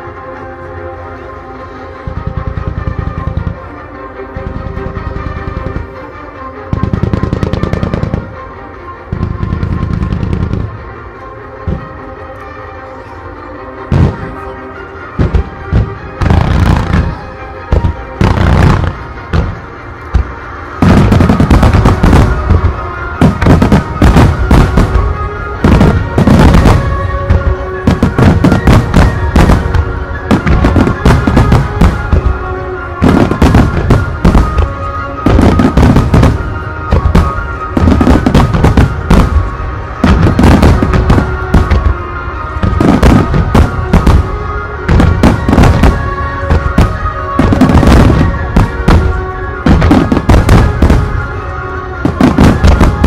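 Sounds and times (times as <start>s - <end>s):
music: 0.0s - 53.0s
fireworks booming and crackling: 2.0s - 6.0s, 6.7s - 8.5s, 9.1s - 10.9s, 13.9s - 14.5s, 15.1s - 53.0s.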